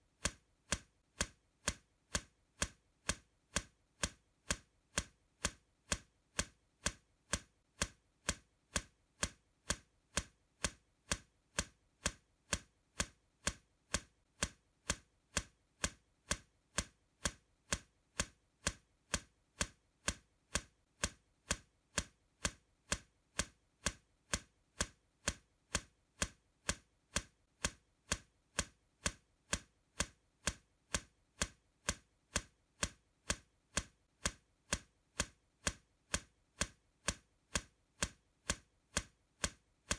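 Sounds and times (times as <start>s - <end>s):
clock ticking: 0.2s - 39.9s.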